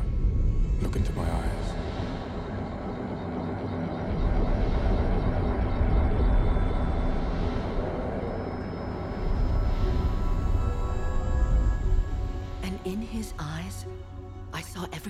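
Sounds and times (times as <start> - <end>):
deep sound-design rumble: 0.0 - 14.6.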